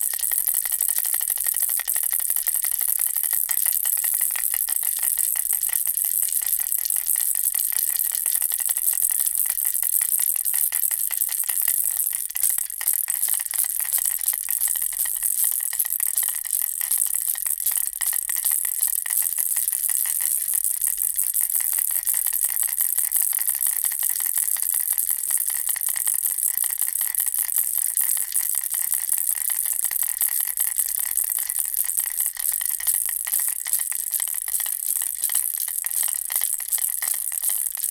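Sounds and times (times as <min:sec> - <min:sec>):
baby rattle shaken: 0:00.0 - 0:37.9.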